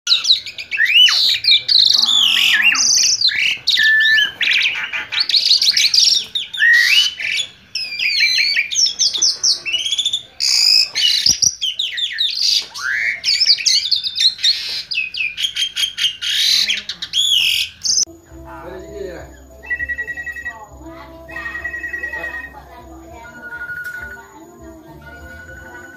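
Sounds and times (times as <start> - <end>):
starling singing whistles and chatter: 0.1 - 25.9.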